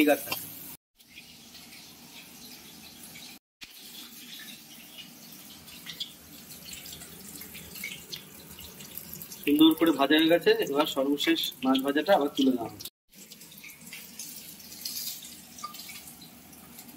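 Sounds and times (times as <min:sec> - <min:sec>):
spices sizzling in oil: 0:00.0 - 0:16.9.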